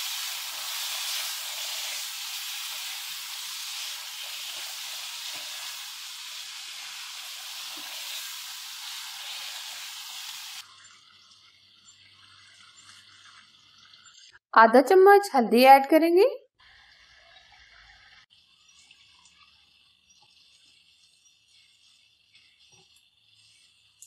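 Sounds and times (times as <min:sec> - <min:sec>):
meat sizzling in a pan: 0:00.0 - 0:13.4, 0:16.6 - 0:24.0
water hissing on hot pan: 0:00.0 - 0:14.4, 0:16.6 - 0:24.0.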